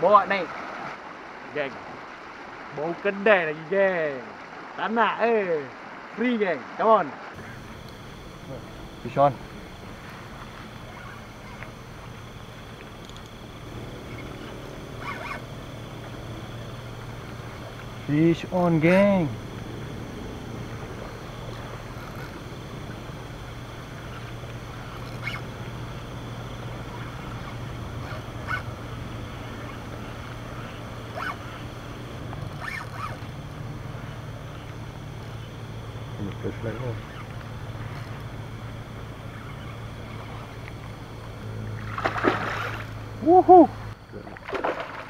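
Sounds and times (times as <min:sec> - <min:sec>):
low machine hum: 0:07.3 - 0:45.0.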